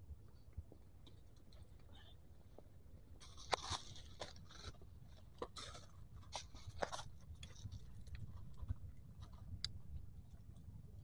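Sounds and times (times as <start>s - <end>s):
gravel crunching and clicking: 0.2s - 11.0s
low steady rumble: 2.0s - 11.0s.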